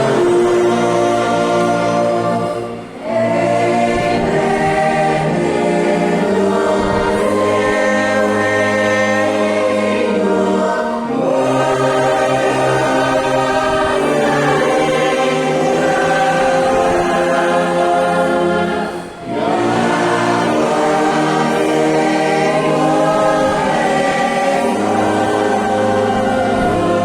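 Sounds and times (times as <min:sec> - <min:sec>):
congregation singing a hymn: 0:00.0 - 0:27.0
instrumental accompaniment: 0:00.0 - 0:27.0.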